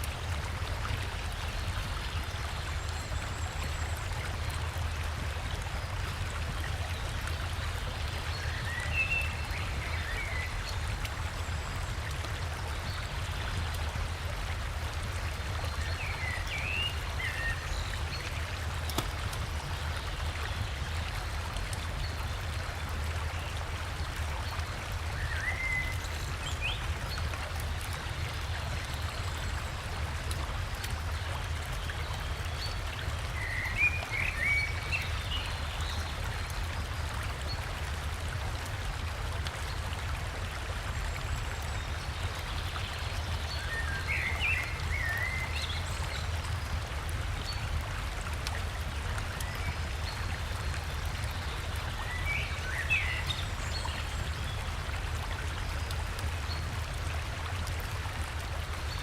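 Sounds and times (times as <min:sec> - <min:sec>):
river and waterfall flowing: 0:00.0 - 0:59.0.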